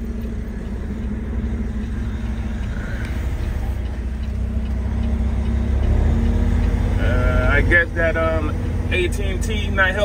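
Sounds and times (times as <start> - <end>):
diesel engine drone from cab: 0.0 - 10.0.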